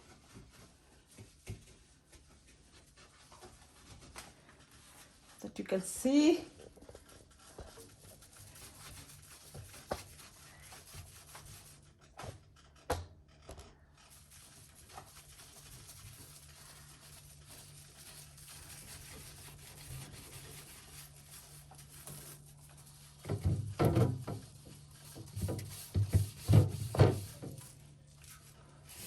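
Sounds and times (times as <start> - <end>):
cloth wiping plastic: 0.0 - 12.3, 14.0 - 29.0.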